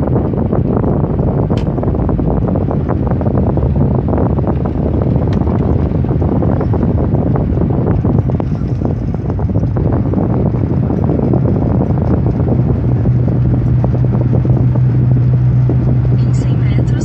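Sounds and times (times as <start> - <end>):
car interior road rumble: 0.0 - 17.0
low hum: 0.0 - 17.0.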